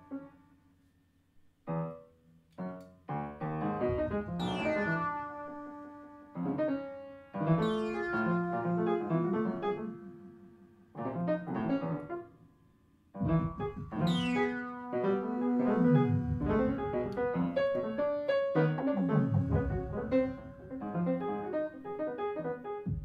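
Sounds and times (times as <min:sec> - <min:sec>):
free jazz piano: 0:01.7 - 0:12.3, 0:13.2 - 0:23.0.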